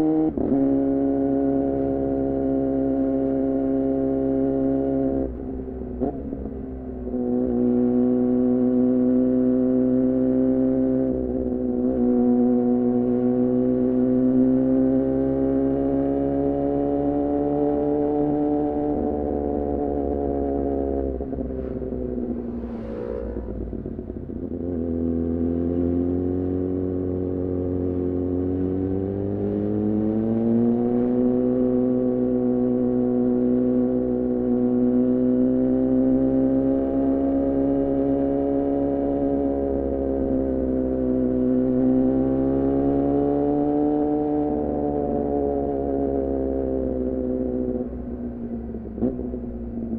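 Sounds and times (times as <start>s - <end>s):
motorcycle engine revving: 5.9s - 49.9s.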